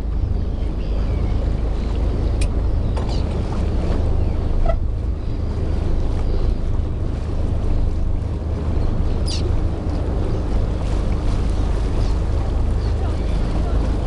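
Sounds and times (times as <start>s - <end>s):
boat engine idling: 0.0s - 14.0s
water lapping: 0.0s - 14.0s
wind buffeting microphone: 0.0s - 14.0s.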